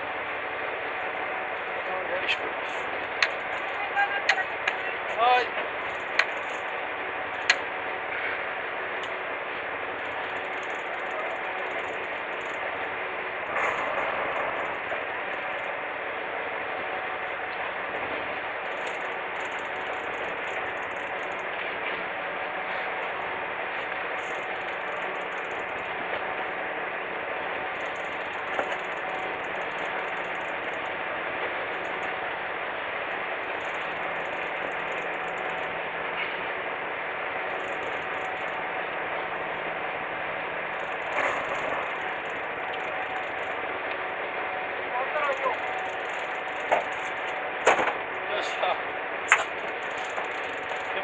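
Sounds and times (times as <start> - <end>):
boat engine droning: 0.0 - 51.0
faint hum tones: 0.0 - 51.0
wind: 0.0 - 51.0.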